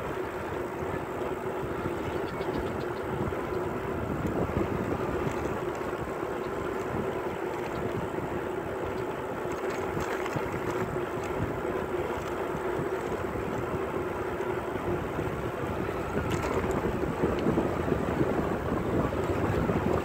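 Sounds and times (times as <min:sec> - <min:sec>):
bicycle tyres rolling on asphalt: 0:00.0 - 0:20.0
wind buffeting microphone: 0:00.0 - 0:20.0.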